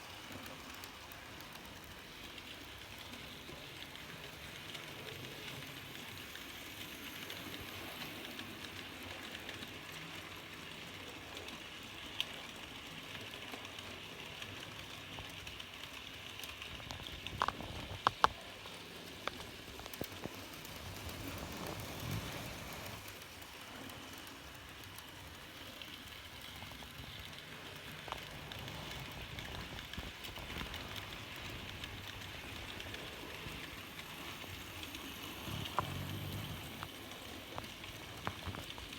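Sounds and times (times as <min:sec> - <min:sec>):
model train motor whirring: 0:00.0 - 0:38.9.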